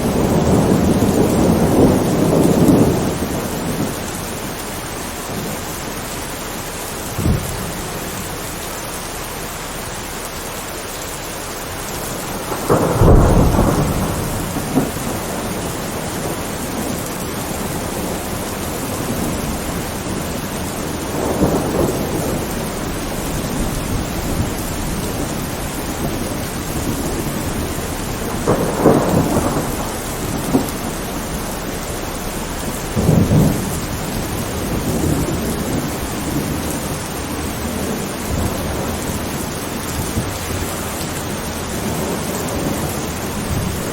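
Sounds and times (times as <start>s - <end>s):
thunder rumbling: 0.0s - 10.2s, 11.4s - 43.9s
steady rain: 0.0s - 43.9s.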